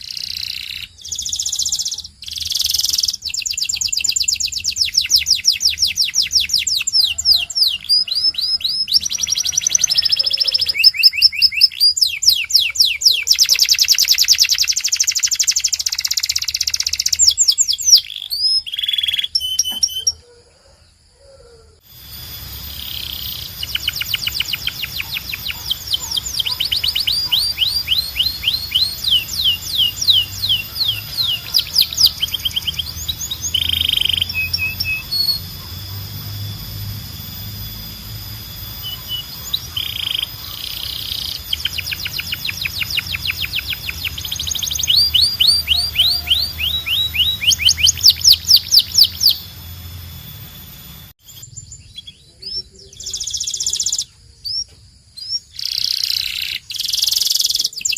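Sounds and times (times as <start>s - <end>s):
canary singing trills: 0.0s - 20.4s, 21.4s - 57.9s.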